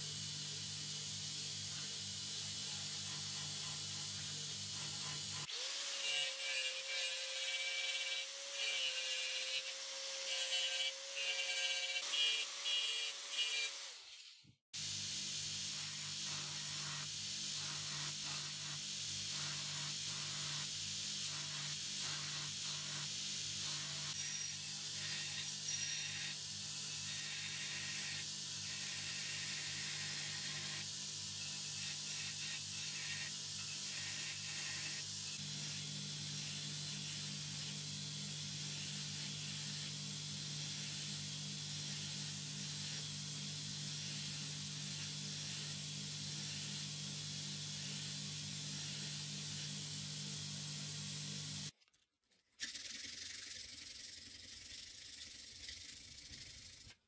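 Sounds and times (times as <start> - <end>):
steel grinding hiss: 0.0 - 14.0, 14.8 - 51.7.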